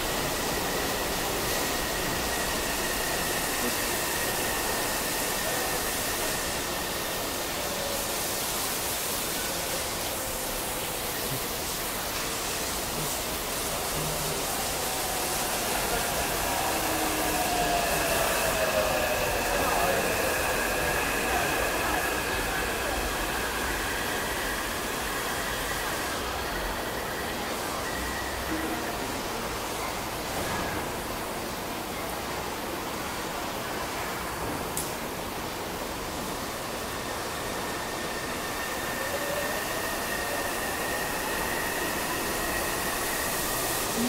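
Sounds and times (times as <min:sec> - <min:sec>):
heavy rain hissing: 0:00.0 - 0:27.7, 0:35.0 - 0:44.0.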